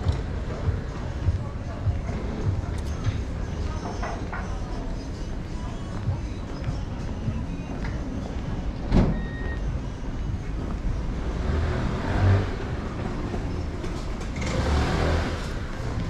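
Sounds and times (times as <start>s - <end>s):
traffic rumbling: 0.0s - 16.0s.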